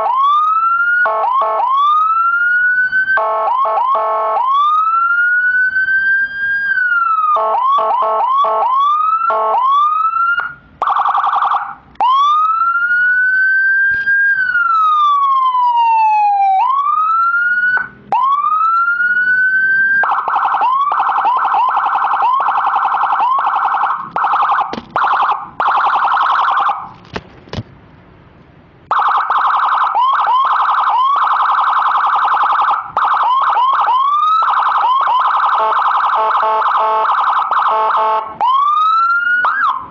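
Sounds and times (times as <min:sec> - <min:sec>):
electronic siren: 0:00.0 - 0:26.9, 0:28.9 - 0:39.9.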